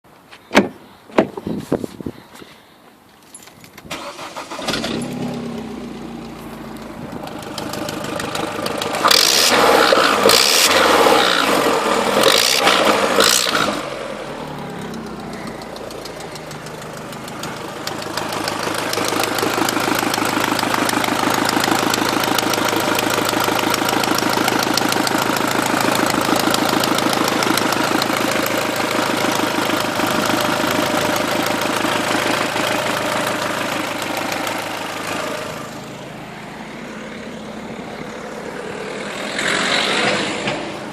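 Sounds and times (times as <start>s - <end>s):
fast-pulsing engine bay noise: 3.9s - 40.9s
car engine running: 4.0s - 40.9s.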